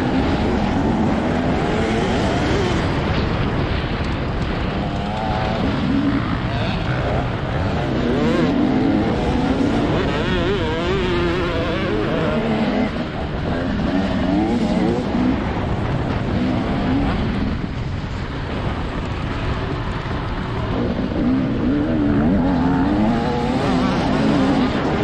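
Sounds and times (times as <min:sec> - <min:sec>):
motorcycle engine revving: 0:00.0 - 0:18.2, 0:18.8 - 0:25.0
track noise: 0:00.0 - 0:25.0
wind rush: 0:00.0 - 0:25.0.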